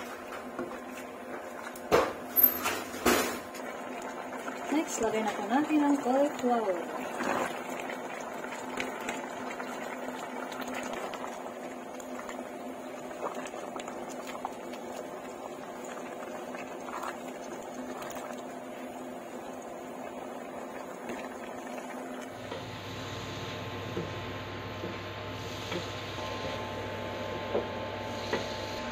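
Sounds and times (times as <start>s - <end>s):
broth bubbling in a pan: 0.0s - 28.9s.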